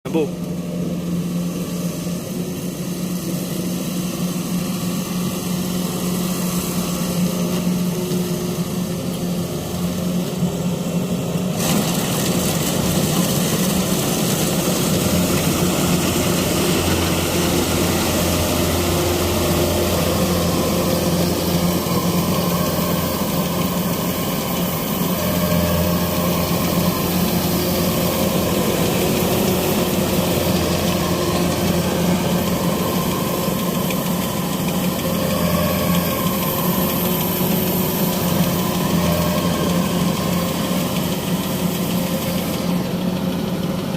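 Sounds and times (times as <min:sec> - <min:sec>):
combine harvester diesel engine: 0:00.0 - 0:43.9
hissing rattling machine noise: 0:00.4 - 0:43.9.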